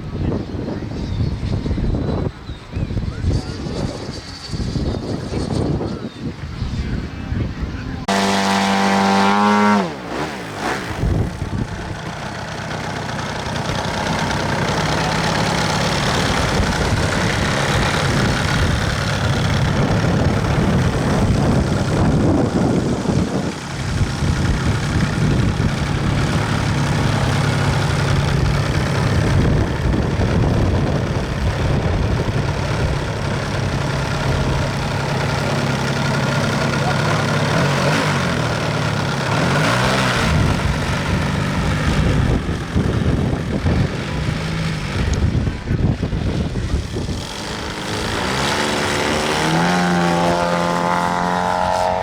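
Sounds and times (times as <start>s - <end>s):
model airplane engine drone: 0.0s - 52.0s.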